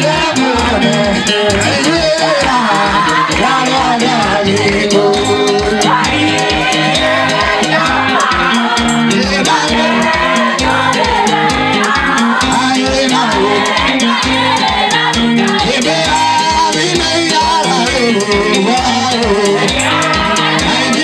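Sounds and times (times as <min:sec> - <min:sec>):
dance music with singing: 0:00.0 - 0:21.0.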